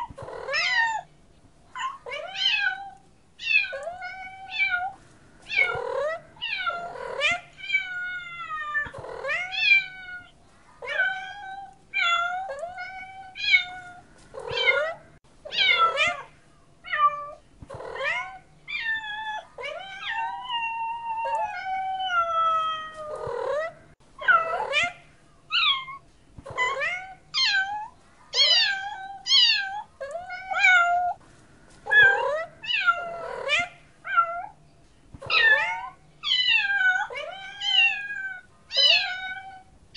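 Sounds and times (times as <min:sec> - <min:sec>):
cat meowing: 0:01.8 - 0:16.3, 0:16.9 - 0:31.2, 0:31.9 - 0:34.6, 0:35.2 - 0:39.7.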